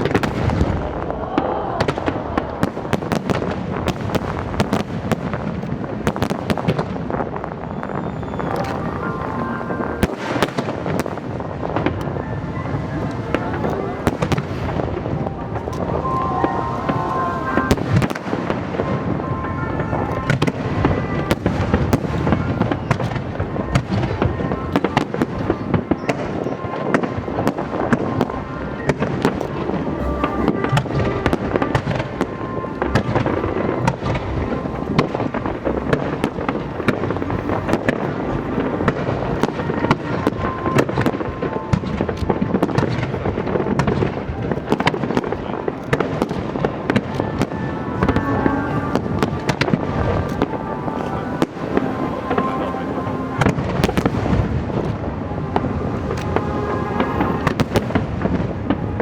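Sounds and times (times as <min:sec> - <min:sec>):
fireworks bangs and crackles: 0:00.0 - 0:59.0
music playing: 0:05.6 - 0:59.0.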